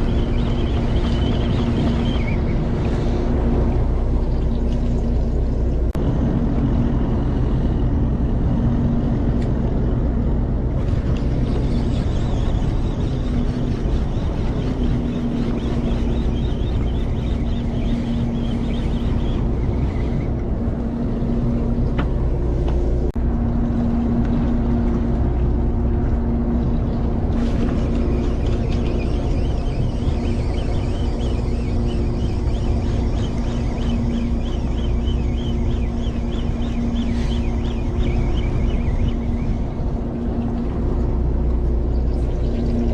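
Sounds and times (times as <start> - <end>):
boat engine humming: 0.0 - 42.9
water noise: 0.0 - 42.9
wind: 0.0 - 42.9.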